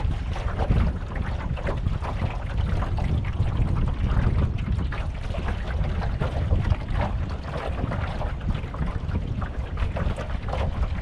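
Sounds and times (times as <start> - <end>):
water lapping against hull: 0.0 - 11.0
wind buffeting microphone: 0.0 - 11.0.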